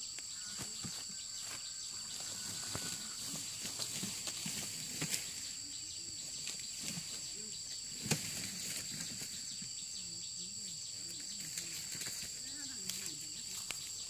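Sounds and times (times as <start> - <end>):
insects droning: 0.0 - 14.0
low wavering calls: 0.0 - 14.0.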